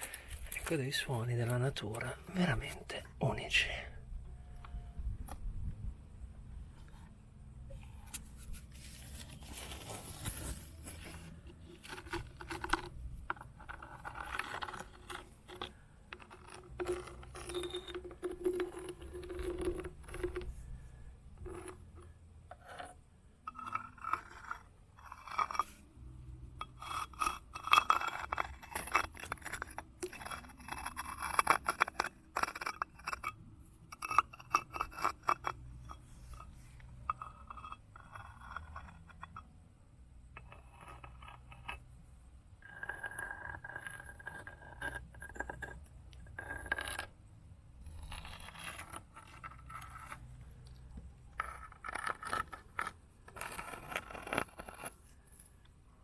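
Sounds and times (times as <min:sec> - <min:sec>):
stones clattering and scraping: 0:00.0 - 0:03.9, 0:07.8 - 0:39.5, 0:40.2 - 0:41.9, 0:42.6 - 0:55.8.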